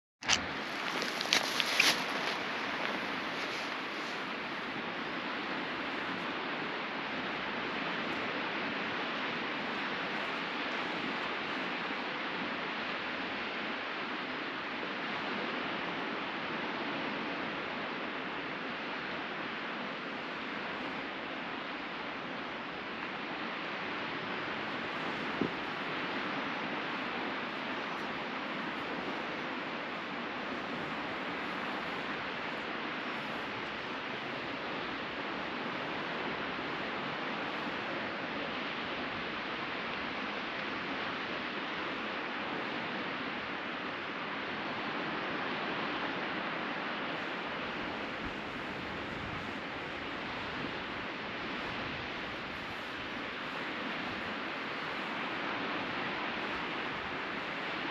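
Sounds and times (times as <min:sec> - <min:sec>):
ocean waves breaking: 0:00.2 - 0:57.9
sea surf washing onto beach: 0:00.2 - 0:57.9.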